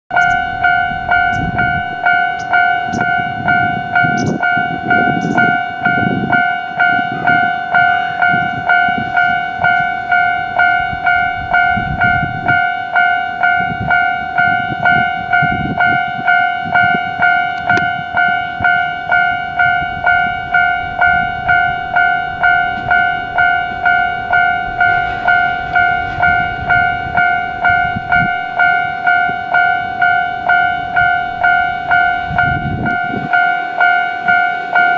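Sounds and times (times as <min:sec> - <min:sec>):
electric train rumbling: 0:00.1 - 0:34.9
level-crossing bell ringing: 0:00.1 - 0:34.9.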